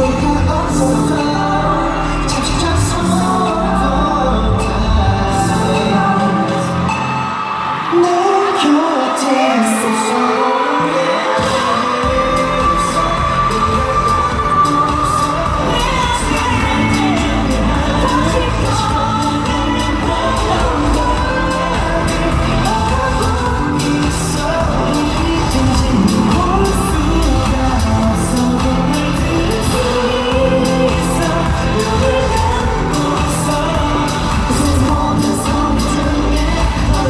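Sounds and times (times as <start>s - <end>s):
live pop song with heavy bass: 0.0s - 37.0s.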